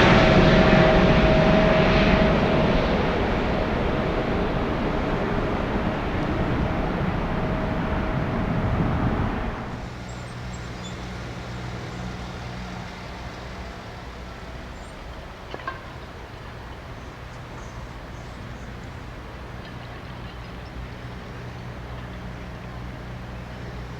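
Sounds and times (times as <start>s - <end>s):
jet rumble: 0.0s - 23.9s
steady low hum: 0.0s - 23.9s.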